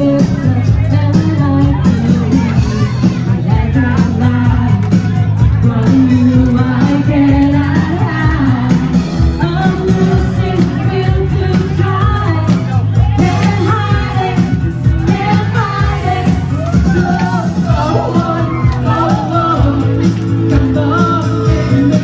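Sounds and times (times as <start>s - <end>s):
backing track with heavy bass: 0.0s - 22.0s
woman singing pop: 0.0s - 22.0s.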